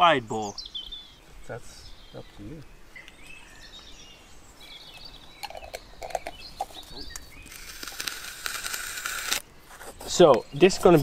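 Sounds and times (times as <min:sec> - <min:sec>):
small birds chirping: 0:00.0 - 0:11.0
steady scratchy hiss: 0:00.0 - 0:11.0.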